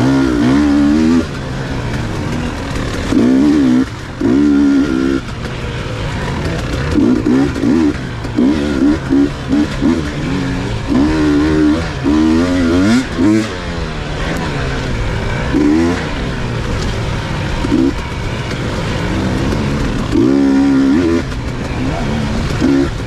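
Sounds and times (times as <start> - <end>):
dirt bike engine revving: 0.0 - 23.0
wind and track noise: 0.0 - 23.0.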